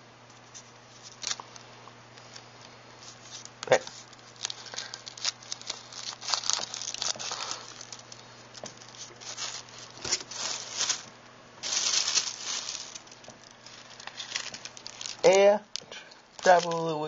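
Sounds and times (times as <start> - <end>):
plastic wrapping crinkling: 3.0 - 17.0.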